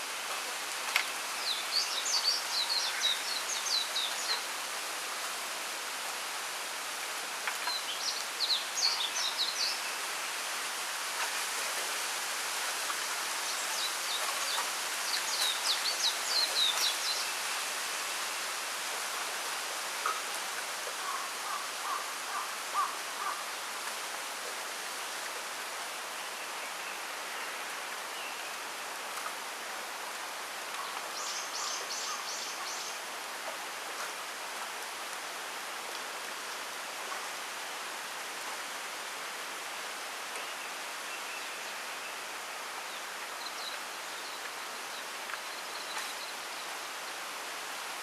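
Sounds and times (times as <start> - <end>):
wind through bamboo: 0.0 - 48.0.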